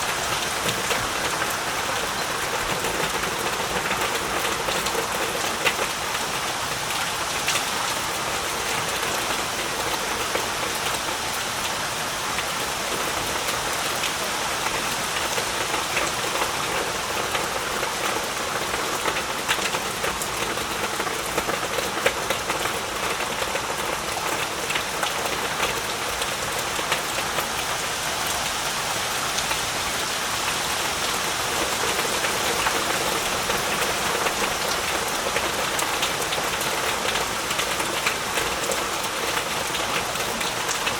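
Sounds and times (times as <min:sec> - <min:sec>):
heavy rain: 0:00.0 - 0:40.9
raindrops pattering on surfaces: 0:00.0 - 0:40.9.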